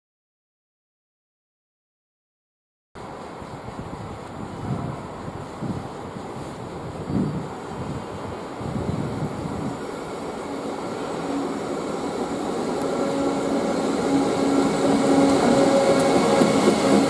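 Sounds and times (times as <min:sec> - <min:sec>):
freight train rumble: 0:03.0 - 0:17.0.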